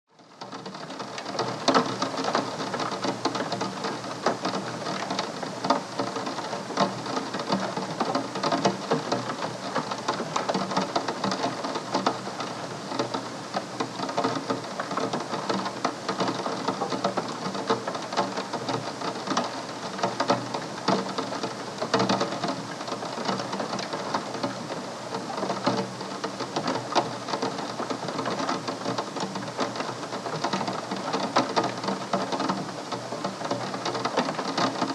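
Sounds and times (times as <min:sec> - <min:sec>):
rain pattering on window glass: 0:00.1 - 0:34.9.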